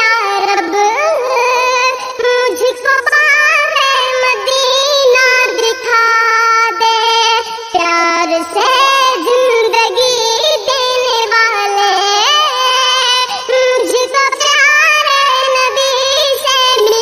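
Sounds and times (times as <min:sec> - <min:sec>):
high synthetic voice singing: 0:00.0 - 0:17.0.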